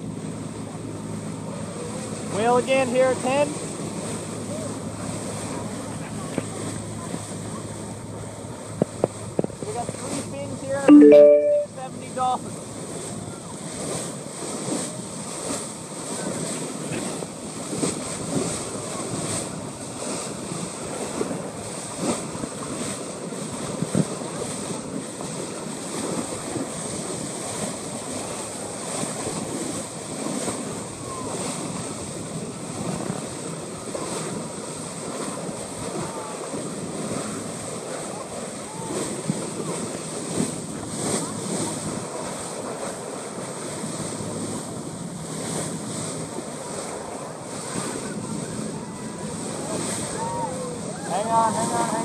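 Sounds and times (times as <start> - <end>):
water washing against hull: 0.0 - 10.8, 11.8 - 52.0
boat engine running: 0.0 - 10.9, 11.5 - 52.0.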